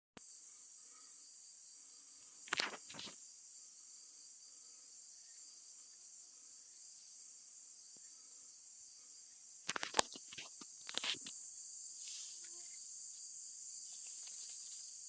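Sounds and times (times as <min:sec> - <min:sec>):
crickets chirping: 0:00.2 - 0:15.0.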